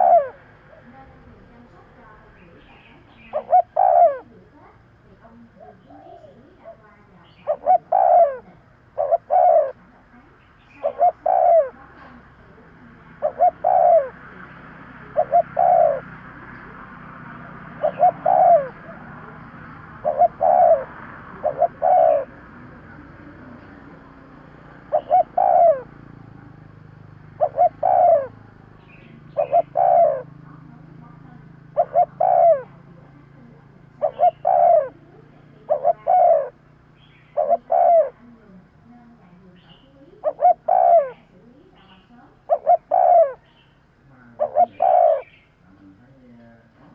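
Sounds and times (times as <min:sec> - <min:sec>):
dove cooing: 0:00.0 - 0:43.6, 0:44.3 - 0:45.5.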